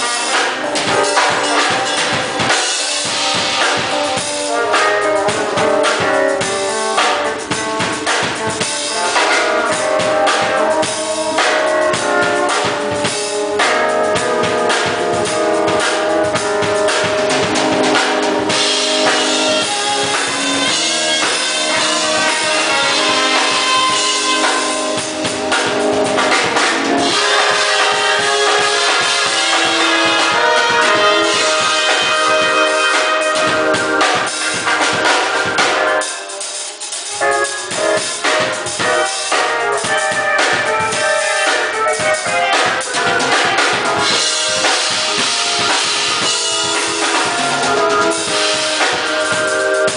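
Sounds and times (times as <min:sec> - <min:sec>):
drum kit: 0:00.0 - 0:49.9
pitched instruments holding notes: 0:00.0 - 0:49.9.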